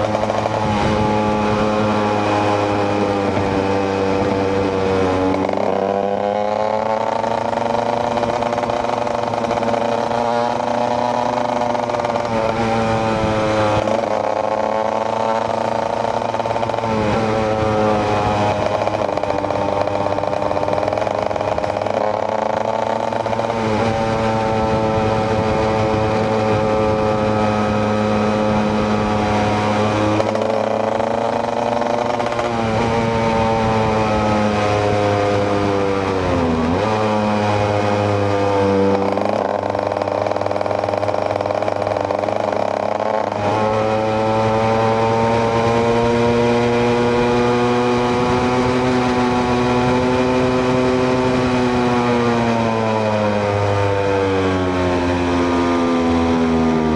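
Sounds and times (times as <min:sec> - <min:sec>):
two-stroke motorcycle engine: 0:00.0 - 0:56.9.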